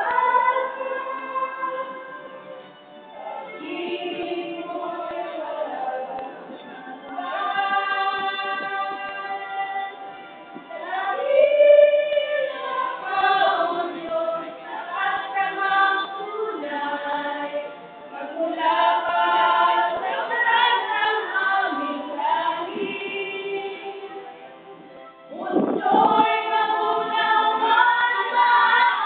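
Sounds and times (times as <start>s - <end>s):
women singing together: 0.0s - 2.6s, 3.2s - 24.4s, 25.3s - 29.0s.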